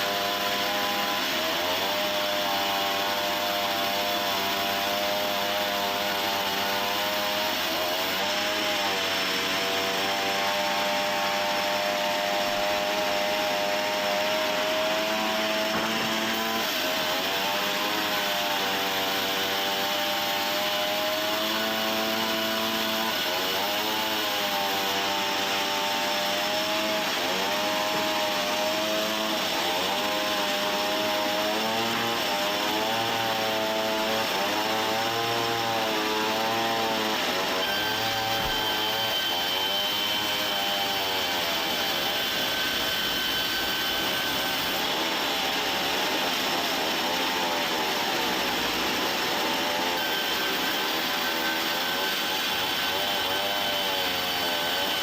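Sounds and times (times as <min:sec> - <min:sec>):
sawmill saw cutting wood: 0:00.0 - 0:55.0.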